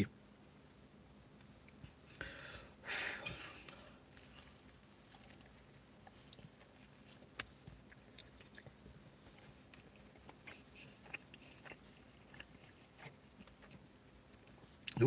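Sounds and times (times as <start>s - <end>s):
man chewing with wet mouth clicks: 1.4s - 2.5s, 3.4s - 15.0s.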